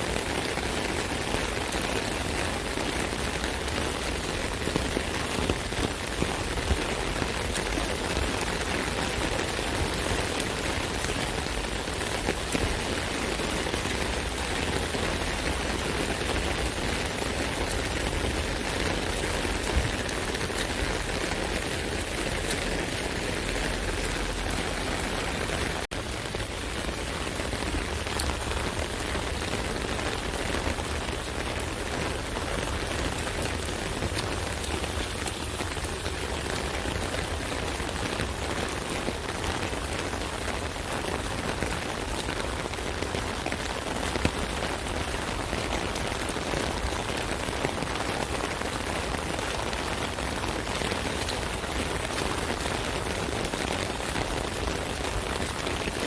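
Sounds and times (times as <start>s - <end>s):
rain on an umbrella: 0.0s - 56.0s
sharp raindrop hits: 0.1s - 56.0s.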